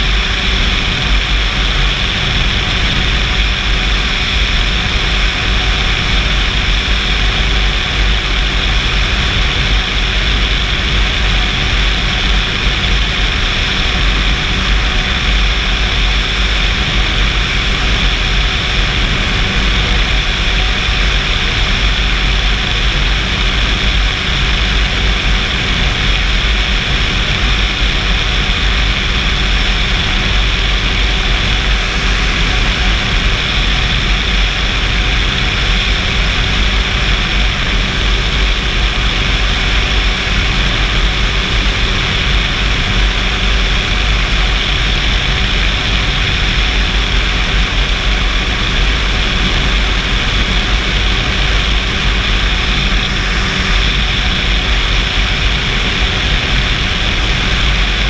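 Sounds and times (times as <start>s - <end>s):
aircraft engine and propeller: 0.0s - 58.0s.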